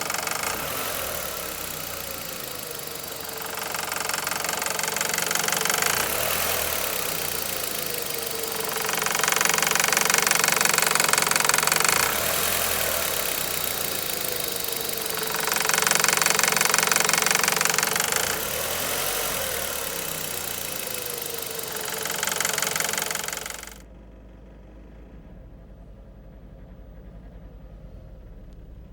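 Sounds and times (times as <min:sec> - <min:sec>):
car engine knocking and revving: 0:00.0 - 0:28.9.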